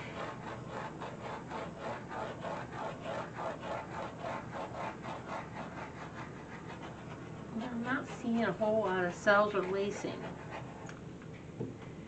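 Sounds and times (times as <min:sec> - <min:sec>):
dog panting rapidly: 0:00.1 - 0:10.8.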